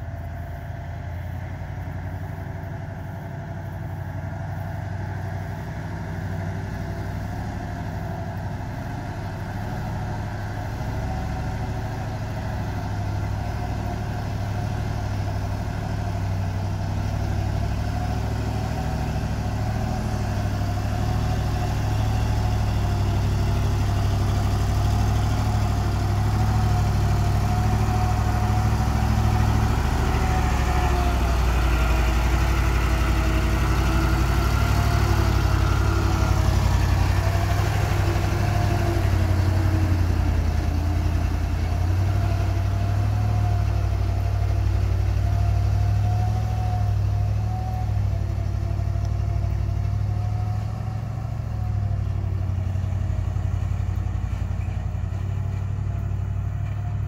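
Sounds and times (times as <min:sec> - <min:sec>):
diesel truck engine rumbling: 0:00.0 - 0:57.0.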